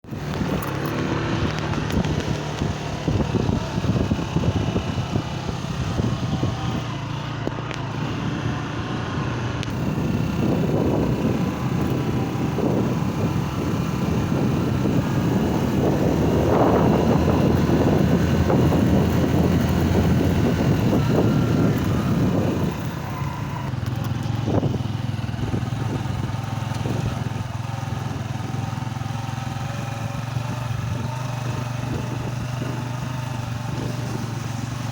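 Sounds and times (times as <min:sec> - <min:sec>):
small vehicle engine running: 0:00.0 - 0:34.9.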